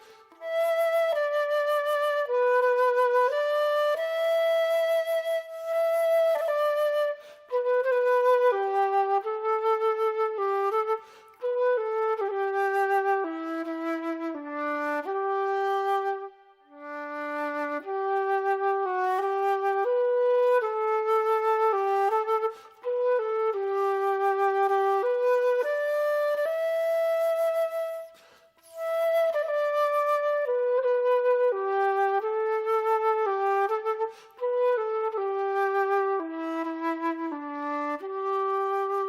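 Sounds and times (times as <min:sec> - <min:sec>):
flute playing slow melody: 0:00.0 - 0:39.0.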